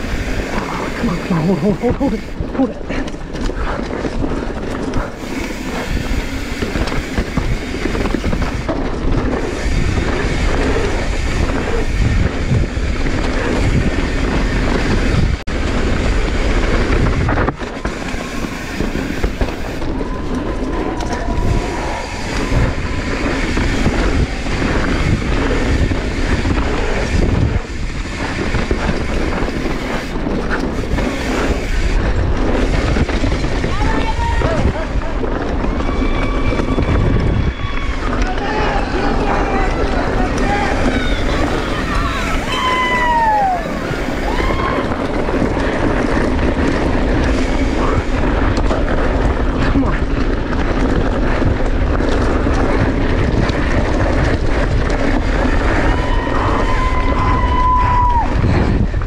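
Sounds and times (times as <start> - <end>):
mountain bike clattering over rocks: 0.0 - 57.3.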